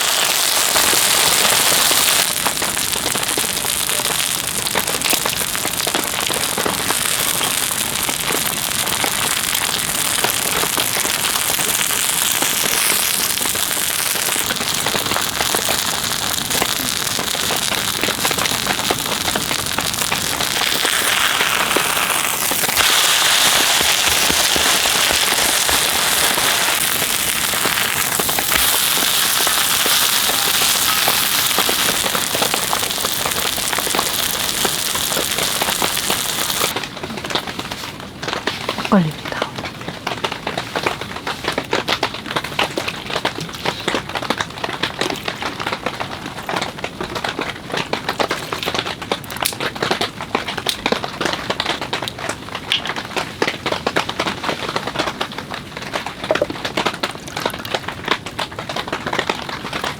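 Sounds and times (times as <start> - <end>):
heavy rain falling: 0.0 - 49.2.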